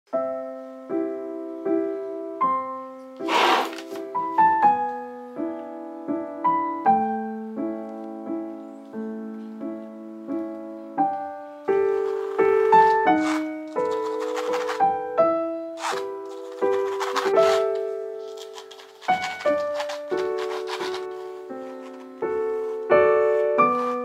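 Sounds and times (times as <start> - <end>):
piano chords: 0.1 - 24.0.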